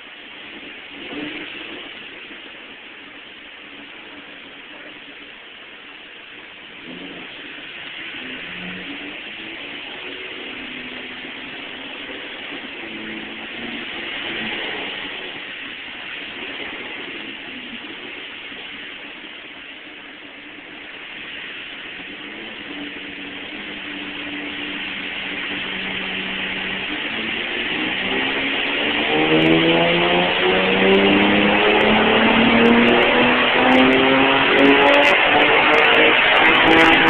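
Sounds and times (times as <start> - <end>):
car engine revving at full throttle: 0.0 - 37.0
exhaust rushing: 0.0 - 37.0.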